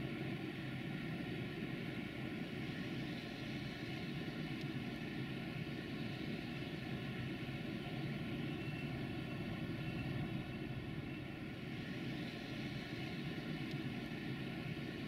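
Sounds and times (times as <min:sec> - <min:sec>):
faint steady tones: 0:00.0 - 0:15.0.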